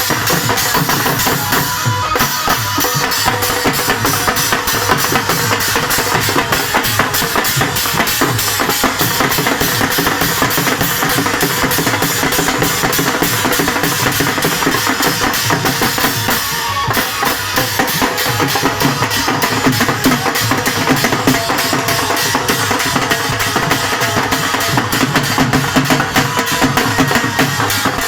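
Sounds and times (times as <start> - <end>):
dance music with fast drum beat: 0.0 - 28.0.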